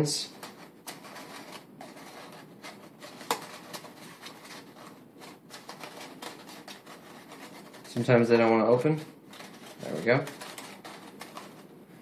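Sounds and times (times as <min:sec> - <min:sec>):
paper crackling and rustling: 0:00.3 - 0:11.8.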